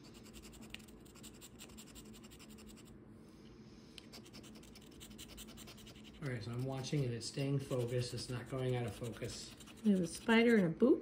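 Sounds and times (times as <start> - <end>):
coin scratching a lottery ticket: 0.0 - 2.9, 4.2 - 10.7.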